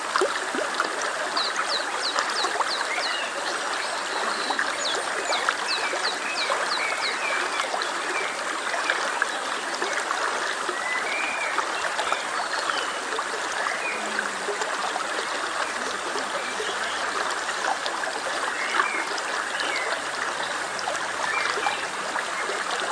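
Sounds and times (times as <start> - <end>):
stream babbling: 0.0 - 22.9.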